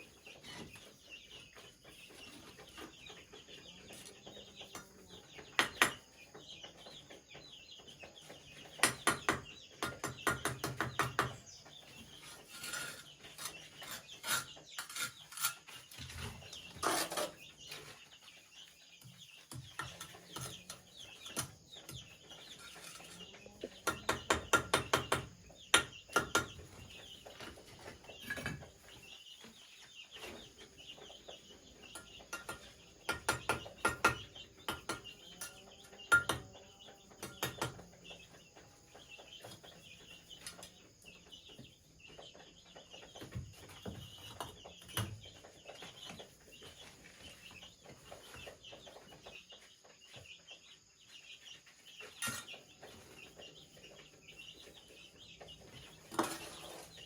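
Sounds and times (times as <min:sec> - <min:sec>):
chickens clucking: 0:00.0 - 0:57.0
small birds chirping: 0:00.0 - 0:57.0.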